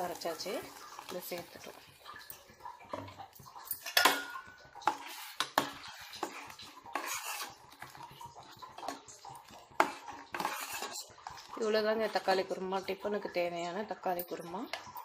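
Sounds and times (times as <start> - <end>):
ladle scraping metal pot: 0.0 - 12.8.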